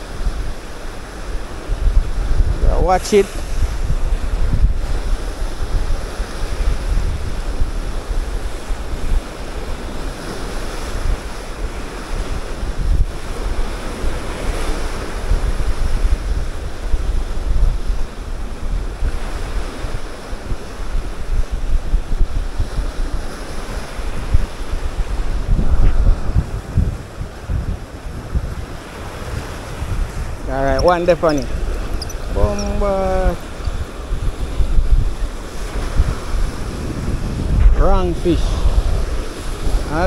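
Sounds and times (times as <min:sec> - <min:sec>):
rough sea surf washing in: 0:00.0 - 0:40.0
wind rumbling on microphone: 0:00.0 - 0:40.0.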